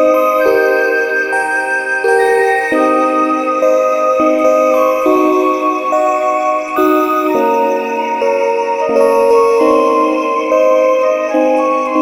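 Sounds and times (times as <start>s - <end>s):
soft instrumental music with held chords: 0.0s - 12.0s.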